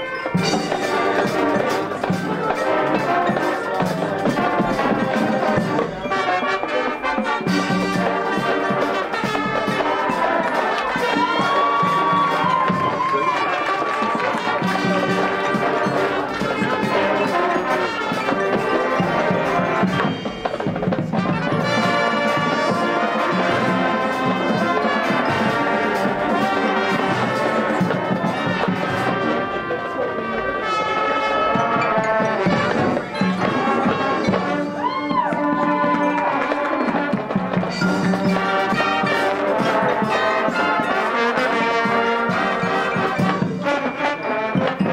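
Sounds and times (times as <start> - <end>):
marching band playing: 0.0 - 44.9.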